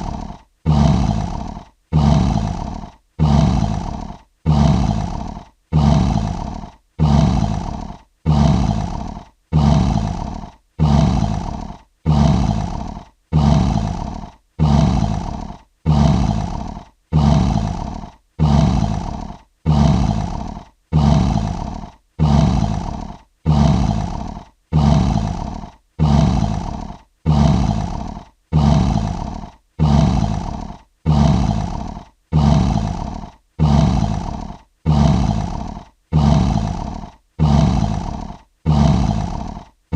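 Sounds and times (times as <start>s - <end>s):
lion roaring: 0.0s - 39.8s.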